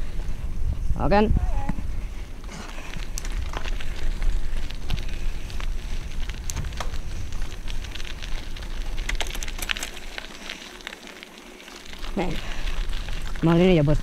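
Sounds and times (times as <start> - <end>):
bike tyres crackling on gravel: 0.0 - 14.0.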